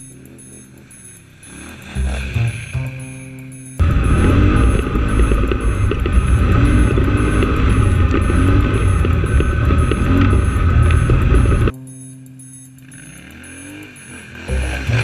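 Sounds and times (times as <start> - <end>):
atv engine running under load: 0.0 - 11.8, 12.8 - 15.0.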